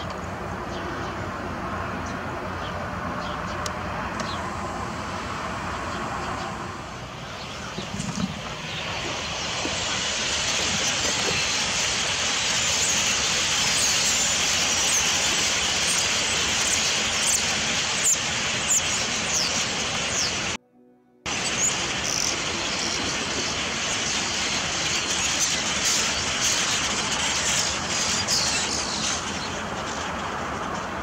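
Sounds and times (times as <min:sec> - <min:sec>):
flock of birds calling: 0:00.0 - 0:20.6, 0:21.3 - 0:31.0.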